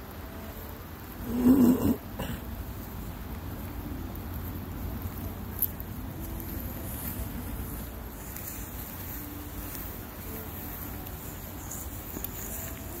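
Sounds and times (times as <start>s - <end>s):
faint high hiss: 0.0s - 13.0s
low fluctuating rumble: 0.3s - 13.0s.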